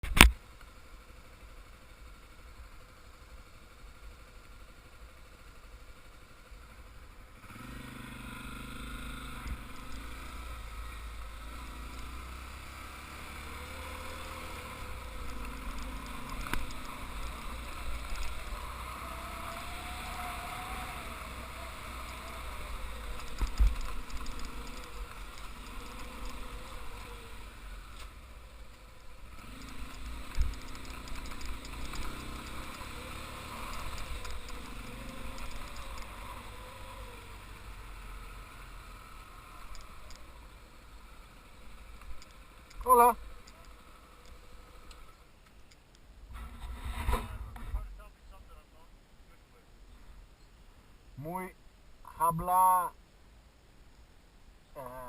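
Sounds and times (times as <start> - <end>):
motorcycle engine running: 0.1 - 45.3.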